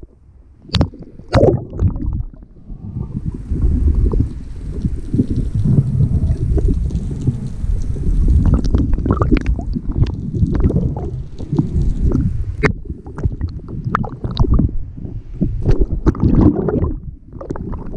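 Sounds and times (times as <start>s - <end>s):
muffled underwater rumble: 0.0s - 17.9s.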